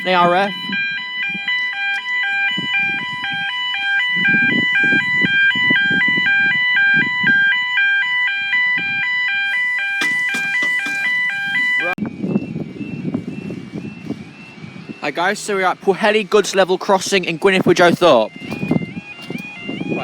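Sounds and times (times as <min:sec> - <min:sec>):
two-tone crossing alarm: 0:00.0 - 0:15.4, 0:17.3 - 0:20.0.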